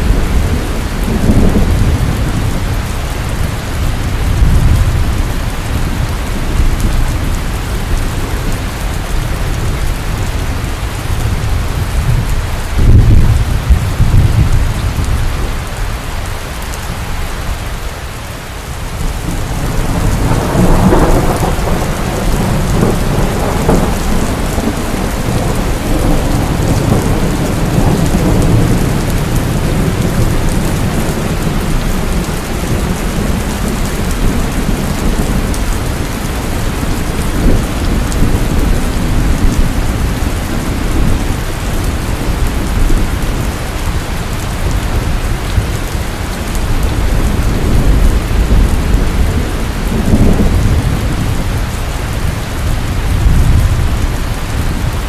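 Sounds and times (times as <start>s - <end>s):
low rolling thunder: 0.0s - 15.9s, 18.7s - 55.0s
heavy rain pouring: 0.0s - 55.0s.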